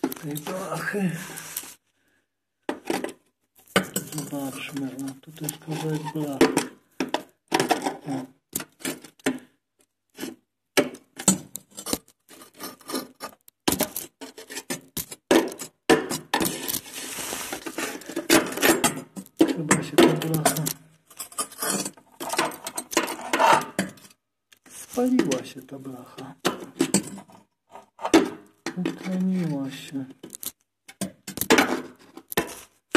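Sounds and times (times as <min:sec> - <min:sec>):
steel rod scraping and knocking: 0:02.7 - 0:09.4, 0:10.2 - 0:32.7.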